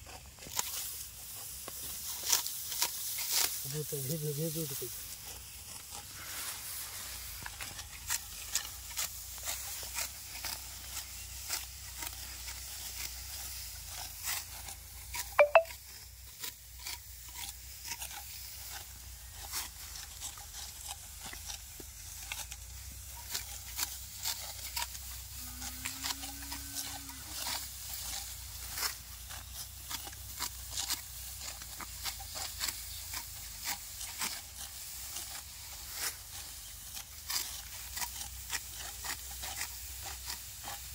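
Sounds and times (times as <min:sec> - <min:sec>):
rice stalks snipped and rustling: 0:00.0 - 0:40.9.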